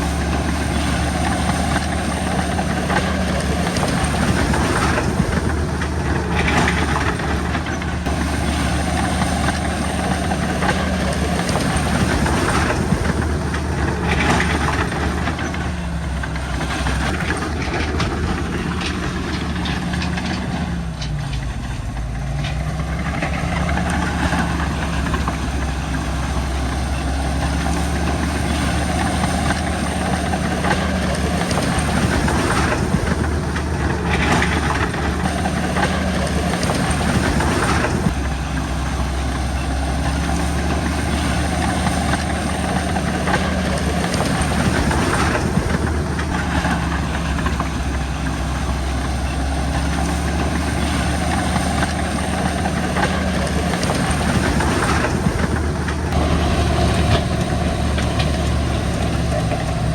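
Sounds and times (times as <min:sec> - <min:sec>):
bulldozer diesel engine running: 0:00.0 - 0:59.9
steel tracks clanking: 0:00.0 - 0:59.9.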